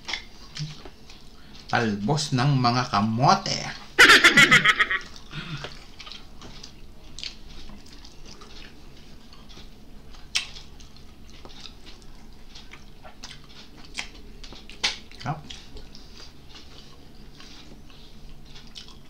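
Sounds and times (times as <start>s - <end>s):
person chewing: 0.0s - 1.8s, 4.6s - 19.0s.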